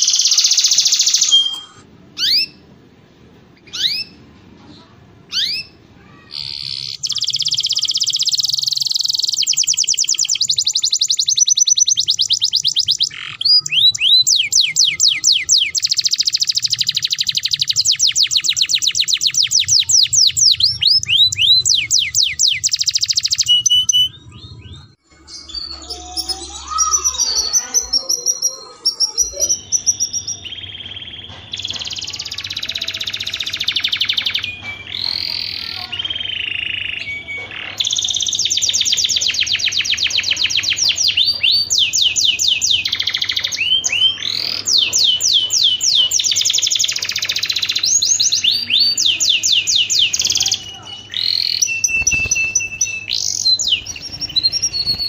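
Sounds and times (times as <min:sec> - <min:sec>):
canary singing rapid trills: 0:00.0 - 0:02.6, 0:03.6 - 0:04.2, 0:05.3 - 0:55.0.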